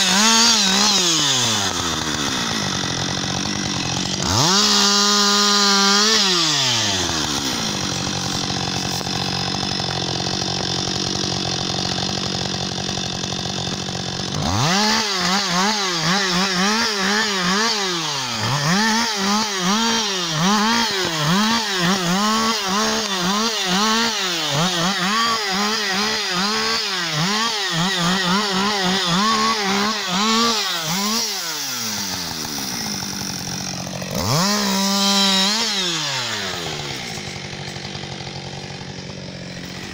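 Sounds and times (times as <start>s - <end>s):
chainsaw engine revving and idling: 0.0s - 39.9s.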